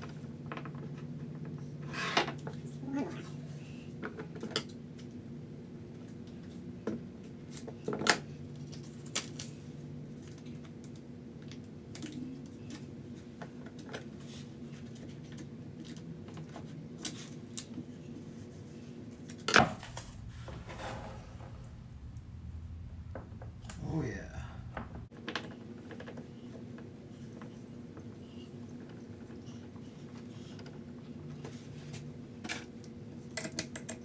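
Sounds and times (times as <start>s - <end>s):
steady electric hum: 0.0s - 34.0s.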